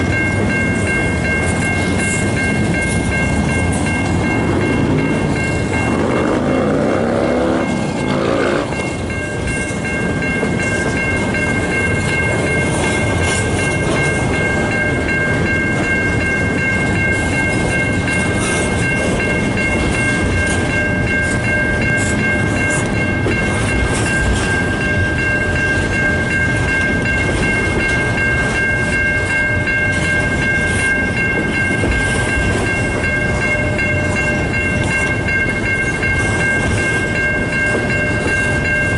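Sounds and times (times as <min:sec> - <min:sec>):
high steady tones: 0:00.0 - 0:38.9
train wheels rumbling on rail: 0:00.0 - 0:38.9.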